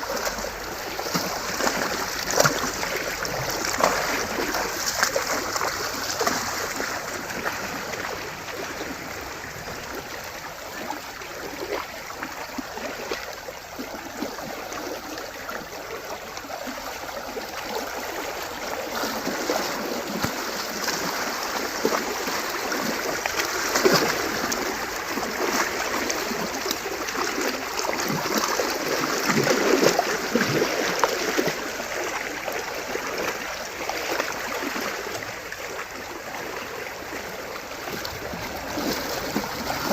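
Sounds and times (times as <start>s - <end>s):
hooves splashing in water: 0.0s - 10.9s, 11.5s - 39.9s
stream current rushing: 0.0s - 39.9s.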